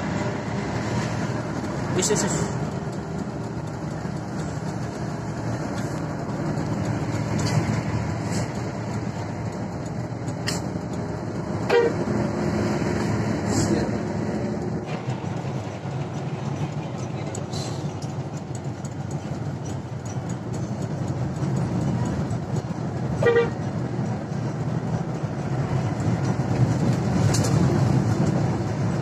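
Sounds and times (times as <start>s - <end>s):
coach engine hum: 0.0s - 29.0s
road rumble: 0.0s - 29.0s
knocks and rattles: 1.2s - 13.4s, 14.1s - 29.0s.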